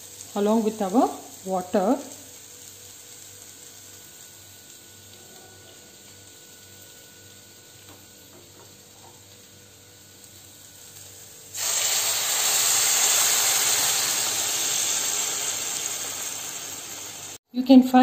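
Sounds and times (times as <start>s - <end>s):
loud hissing sizzle in a pan: 0.0s - 17.4s.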